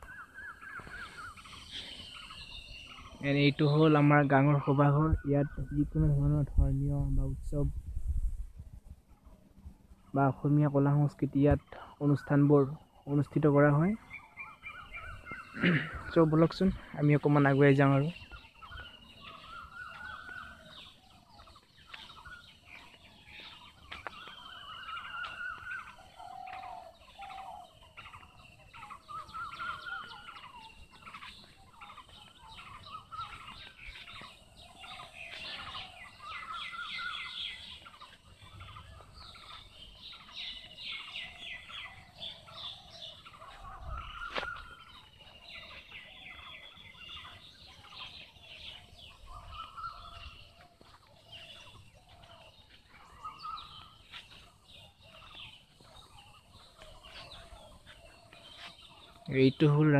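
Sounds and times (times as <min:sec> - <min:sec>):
birds chattering trills: 0:00.0 - 0:07.8, 0:08.7 - 0:59.9.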